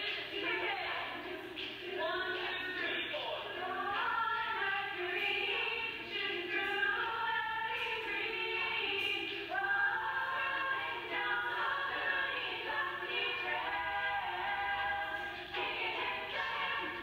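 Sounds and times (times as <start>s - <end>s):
group of voices singing muffled: 0.0s - 17.0s.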